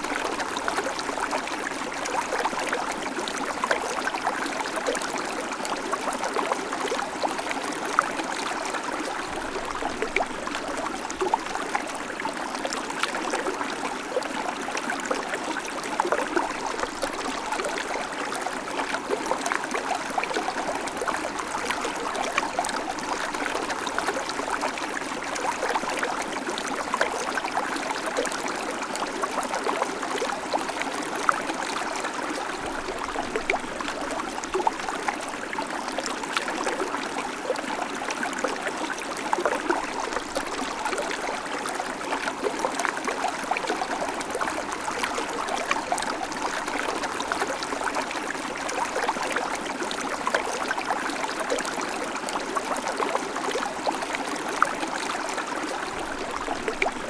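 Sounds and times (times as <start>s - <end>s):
creek water babbling over stones: 0.0s - 57.0s.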